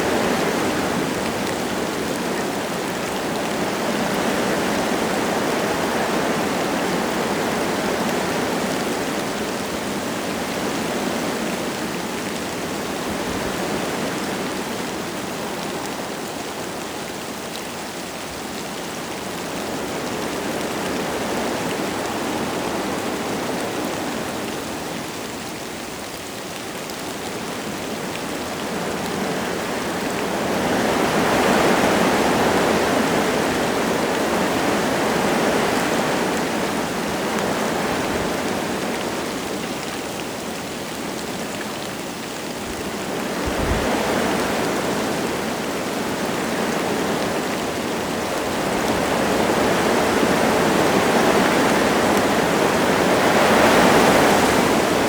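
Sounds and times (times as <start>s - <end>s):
light rain falling: 0.0s - 55.0s
wind gusting through trees: 0.0s - 55.0s.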